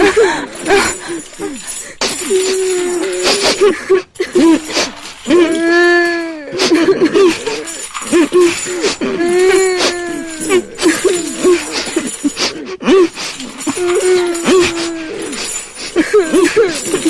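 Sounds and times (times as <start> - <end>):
chains rattling and dragging: 0.0 - 17.0.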